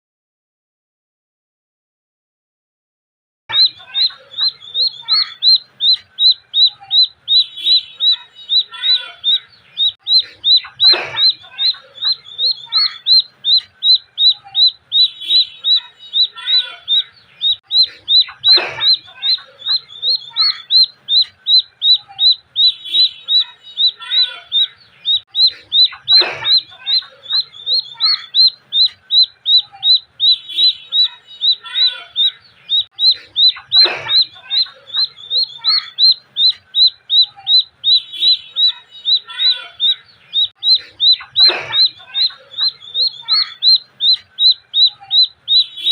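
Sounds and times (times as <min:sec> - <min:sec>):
duckling peeping: 0:03.5 - 0:45.9.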